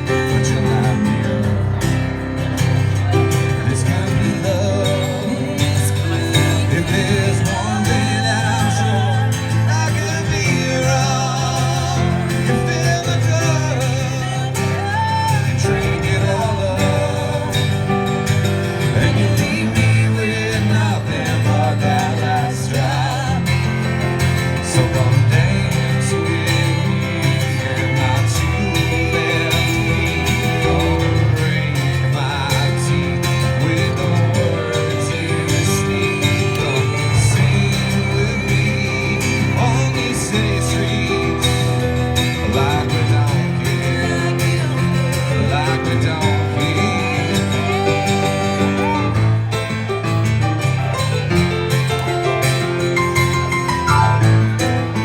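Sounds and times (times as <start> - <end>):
live band with guitar and bass: 0.0 - 55.0.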